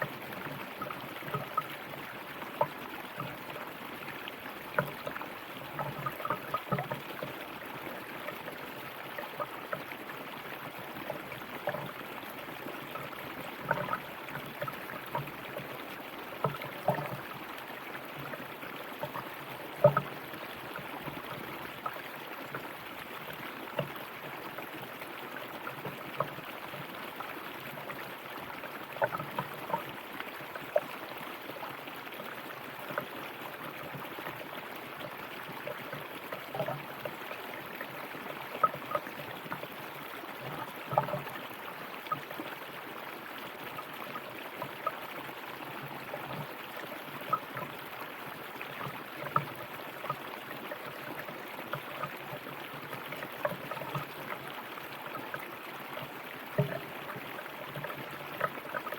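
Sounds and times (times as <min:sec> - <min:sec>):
river water running over rocks: 0:00.0 - 0:58.9.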